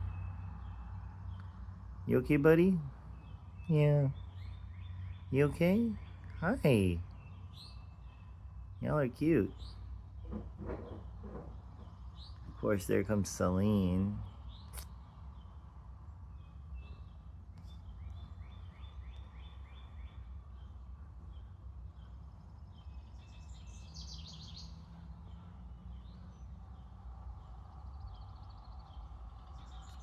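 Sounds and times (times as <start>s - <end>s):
low background rumble: 0.0s - 30.0s
songbirds chirping and twittering: 0.0s - 30.0s.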